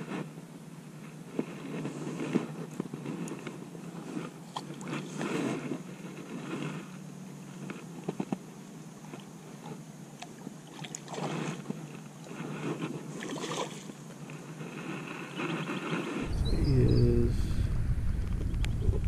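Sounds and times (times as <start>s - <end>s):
rustling of clothing and grass: 0.0s - 17.2s.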